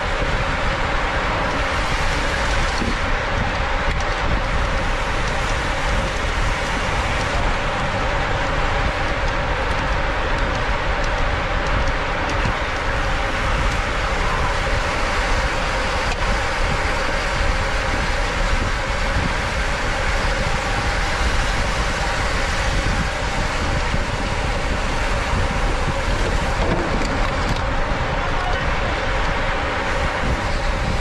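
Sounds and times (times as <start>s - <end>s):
bicycle tyre and road noise: 0.0s - 31.0s
wind rushing on microphone: 0.0s - 31.0s.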